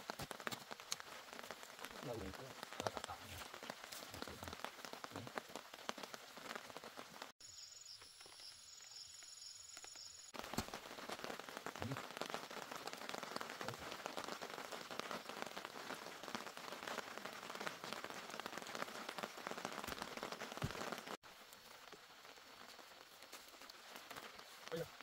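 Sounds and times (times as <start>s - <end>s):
steady rain pattering: 0.0s - 7.4s, 10.3s - 25.0s.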